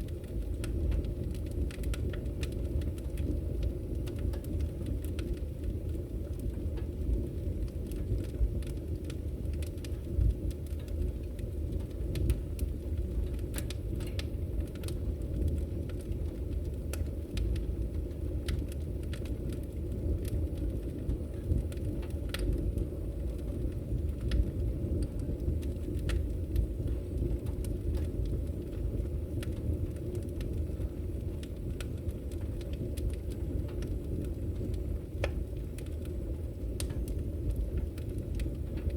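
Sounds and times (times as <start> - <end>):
fire flames rumbling: 0.0 - 38.9
logs crackling and popping: 0.0 - 38.9.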